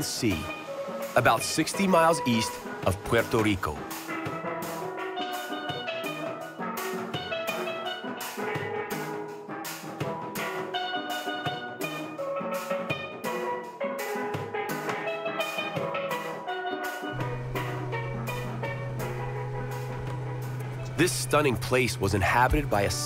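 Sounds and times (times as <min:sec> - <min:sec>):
drums with steady beat: 0:00.0 - 0:23.0
steel pan melody: 0:00.1 - 0:09.8, 0:10.4 - 0:23.0.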